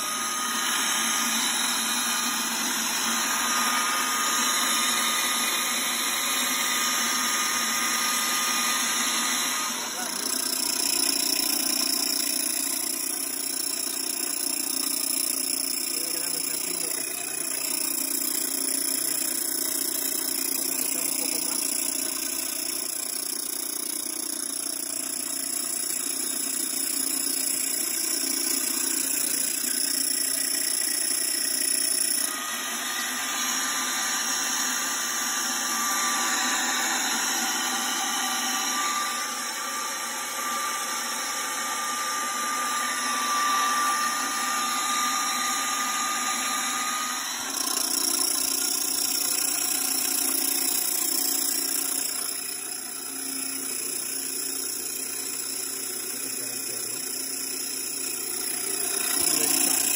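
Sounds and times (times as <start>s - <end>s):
grain mill grinding: 0.0s - 59.9s
thin steady whine: 0.0s - 59.9s.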